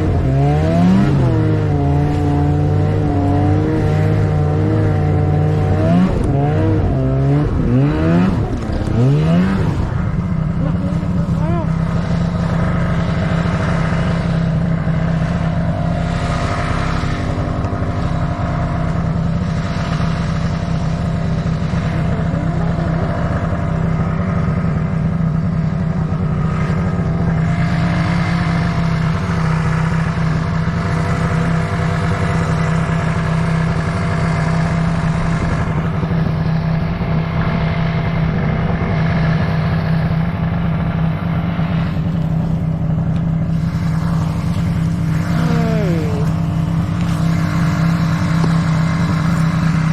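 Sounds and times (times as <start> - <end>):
snowmobile engine droning: 0.0 - 49.9.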